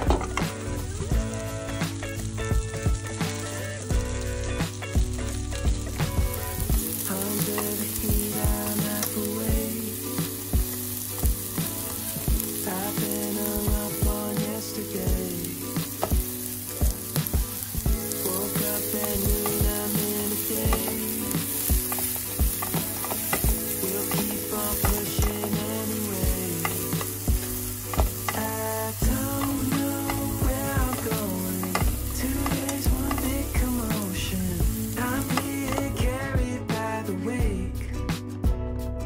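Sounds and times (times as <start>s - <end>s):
crackling hiss: 0.0s - 37.3s
background music with kick drum: 0.0s - 39.0s.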